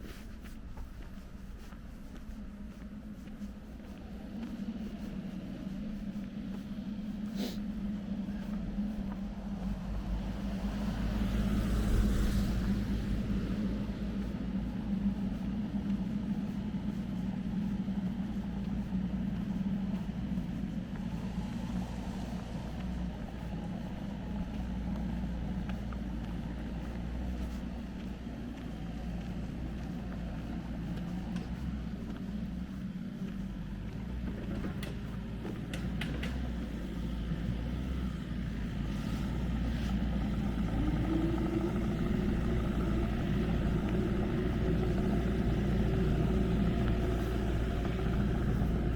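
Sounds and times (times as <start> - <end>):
vehicle engine rumbling: 0.0 - 48.9
higher engine tone: 2.4 - 48.9.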